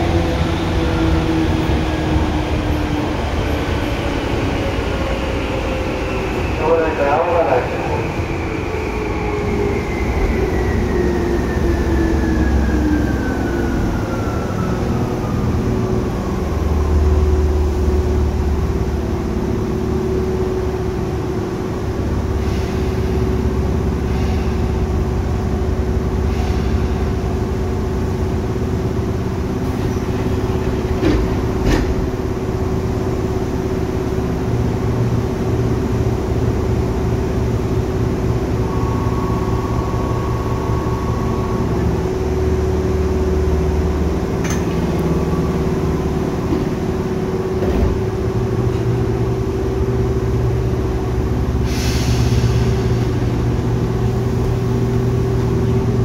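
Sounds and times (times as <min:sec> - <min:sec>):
train hum and low rumble: 0:00.0 - 0:56.0.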